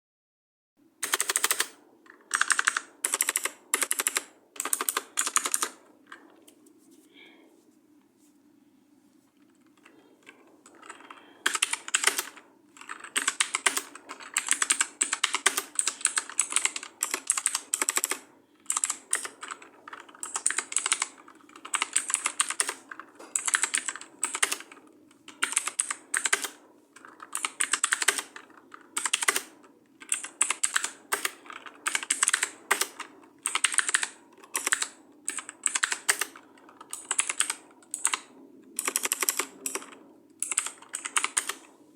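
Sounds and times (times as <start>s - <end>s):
fast typing on keyboard: 1.0s - 6.4s, 9.6s - 41.7s.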